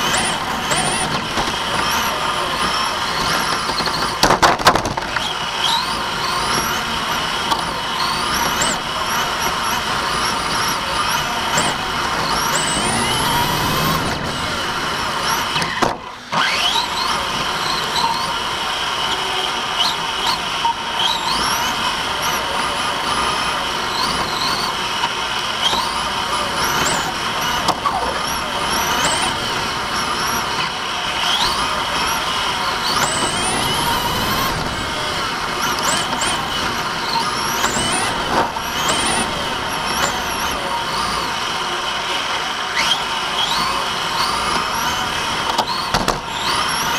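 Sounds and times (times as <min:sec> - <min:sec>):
electric motor whining: 0:00.0 - 0:46.9
tyre and drivetrain noise: 0:00.0 - 0:46.9.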